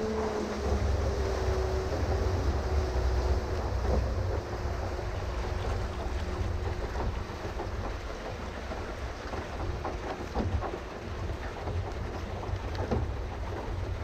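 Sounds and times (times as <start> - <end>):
paddle wheel churning water: 0.0 - 14.0
wind rumble on microphone: 0.0 - 14.0.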